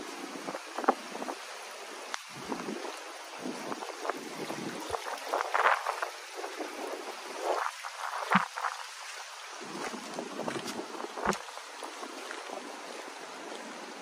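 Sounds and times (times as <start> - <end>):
steady hiss: 0.0 - 14.0
water splashing and trickling: 0.0 - 14.0.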